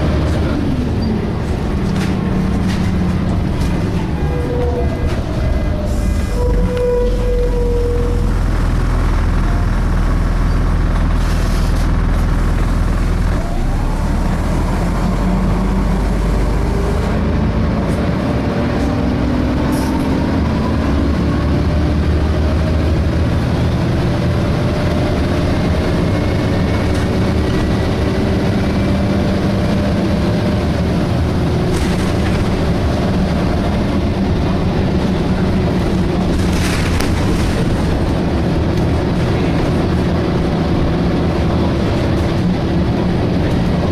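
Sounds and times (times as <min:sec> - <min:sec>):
bus engine drone: 0:00.0 - 0:43.9.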